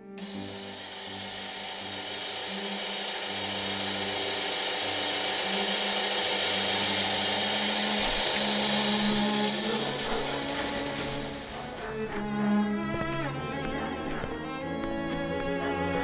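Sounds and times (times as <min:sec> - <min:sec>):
scroll saw cutting wood: 0:00.0 - 0:16.0.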